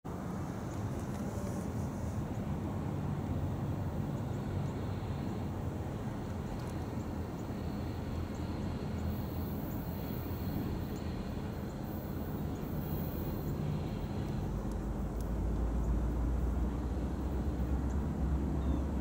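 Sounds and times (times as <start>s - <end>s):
diesel locomotive low rumble: 0.0s - 19.0s.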